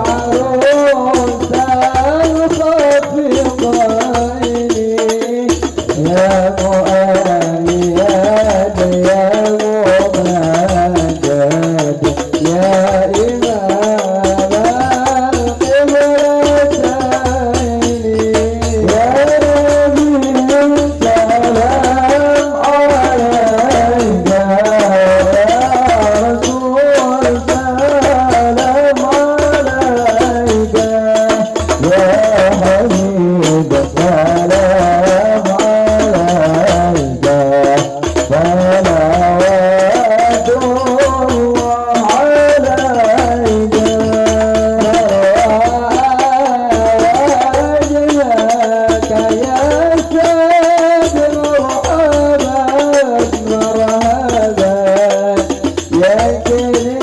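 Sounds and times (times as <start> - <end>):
frame drums beating: 0.0 - 57.0
men singing a devotional chant: 0.0 - 57.0.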